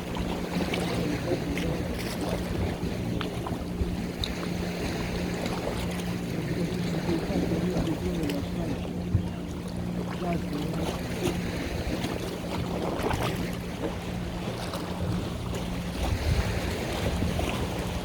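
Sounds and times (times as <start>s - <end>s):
boat engine humming: 0.0s - 18.0s
water wash: 0.0s - 18.0s
wind buffeting microphone: 0.0s - 18.0s.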